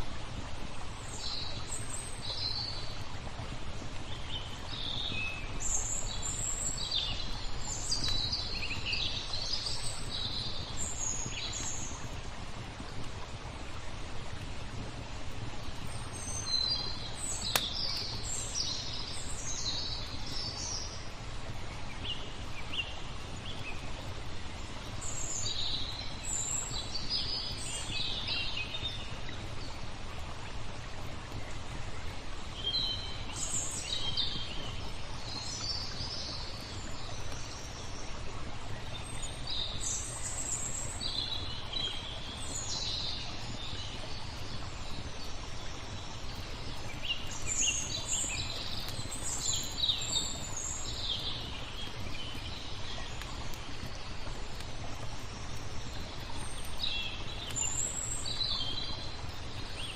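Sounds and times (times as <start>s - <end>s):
low rush of water: 0.0s - 59.9s
songbirds twittering: 0.8s - 13.0s, 15.0s - 30.3s, 31.3s - 59.9s.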